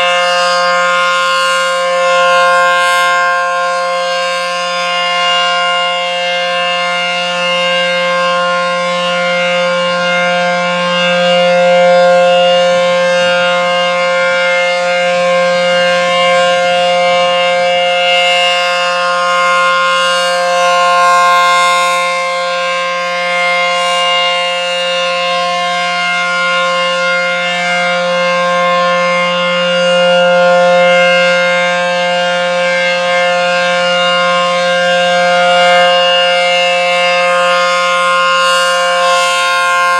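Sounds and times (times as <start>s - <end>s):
warning siren steady chord: 0.0s - 39.9s.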